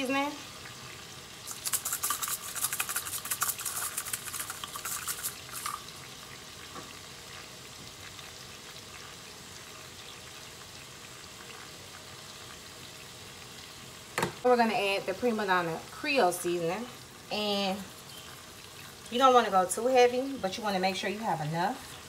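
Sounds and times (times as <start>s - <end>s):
sauce simmering with faint sizzle: 0.0s - 22.0s.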